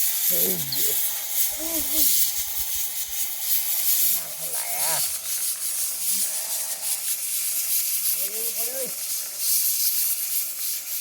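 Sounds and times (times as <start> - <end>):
rain falling: 0.0 - 10.2.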